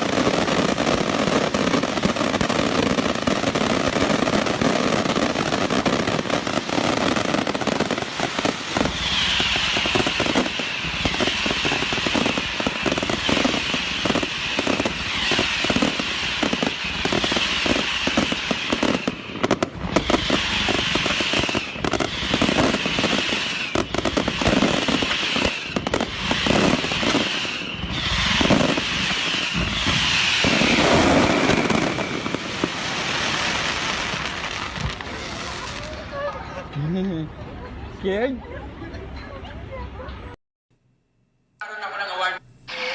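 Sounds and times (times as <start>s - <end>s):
fireworks crackling and banging: 0.0s - 38.1s.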